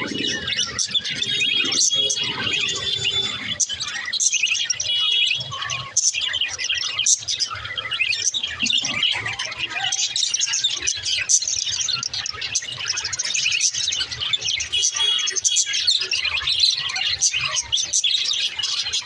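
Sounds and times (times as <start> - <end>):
budgerigars chirping and warbling: 0.0 - 19.0.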